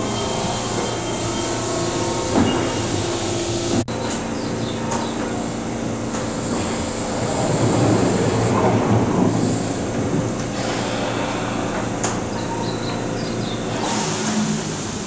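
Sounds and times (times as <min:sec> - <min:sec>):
electric train running slowly: 0:00.0 - 0:15.0
train equipment humming: 0:00.0 - 0:15.0.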